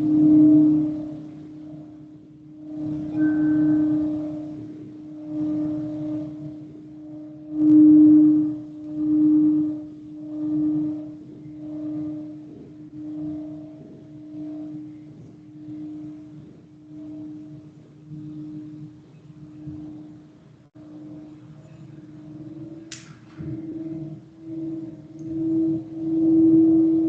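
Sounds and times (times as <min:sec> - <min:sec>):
singing bowl ringing: 0:00.0 - 0:27.0.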